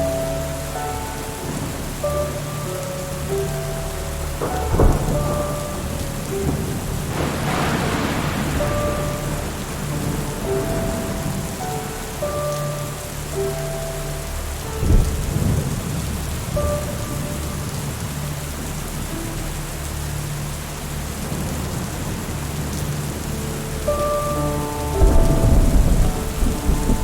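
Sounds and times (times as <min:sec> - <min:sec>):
steady rain: 0:00.0 - 0:27.0
thunder rumbling: 0:00.0 - 0:27.0.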